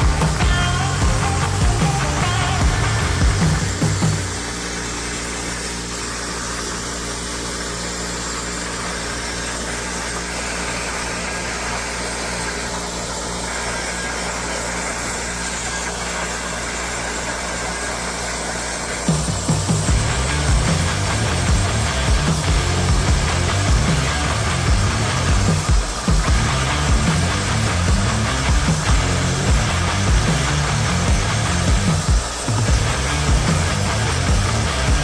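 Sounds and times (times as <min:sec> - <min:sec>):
plasma cutter hissing: 0:00.0 - 0:35.0.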